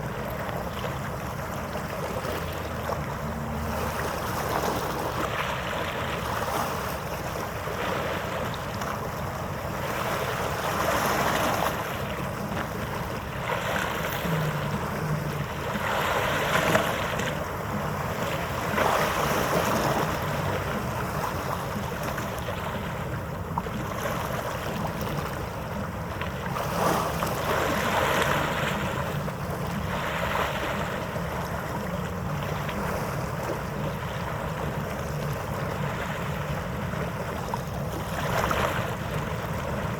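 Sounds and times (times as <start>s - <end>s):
steady low rumble: 0.0s - 39.9s
water noise: 0.0s - 39.9s.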